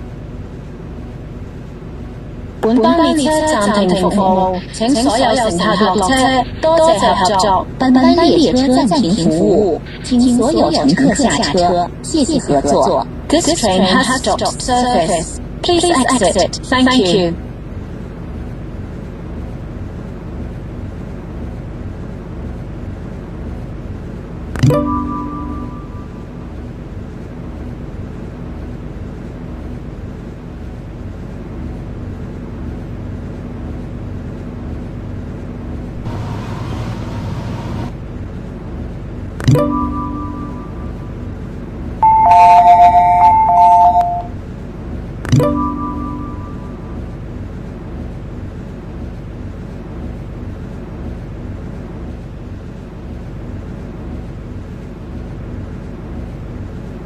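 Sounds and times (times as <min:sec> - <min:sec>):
train car running rumble: 0:00.0 - 0:57.0.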